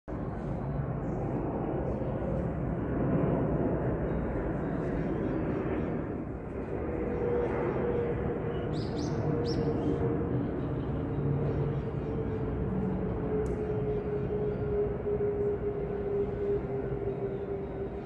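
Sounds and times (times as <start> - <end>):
distant electric train rumble: 0.1 - 18.0.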